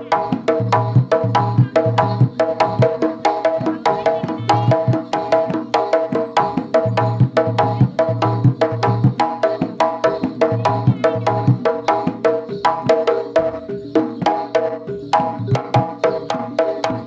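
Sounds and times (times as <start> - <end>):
gamelan metal percussion strikes: 0.0 - 17.0.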